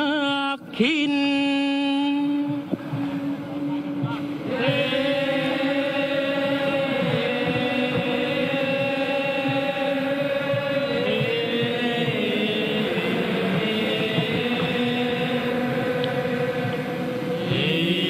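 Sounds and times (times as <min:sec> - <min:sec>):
crew chanting long held notes: 0:00.0 - 0:18.0.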